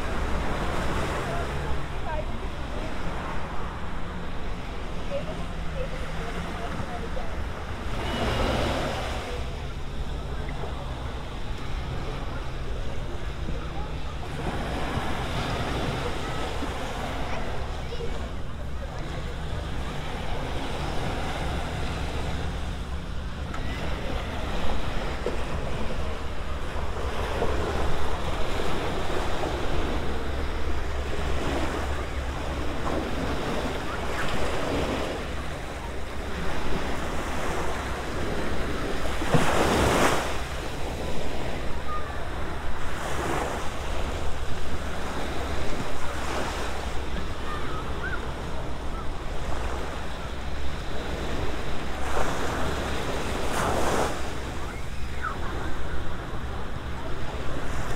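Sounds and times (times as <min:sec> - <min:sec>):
surf washing on sand: 0:00.0 - 0:57.9.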